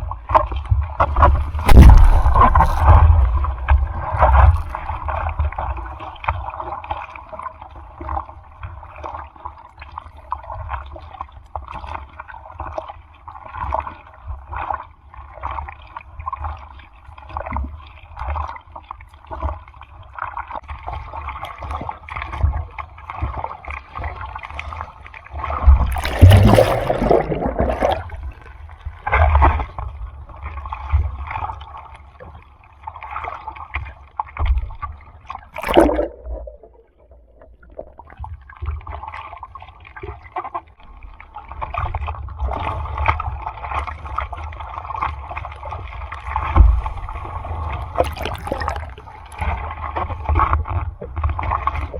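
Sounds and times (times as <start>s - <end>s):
sea water sloshing and splashing: 0.0s - 51.9s.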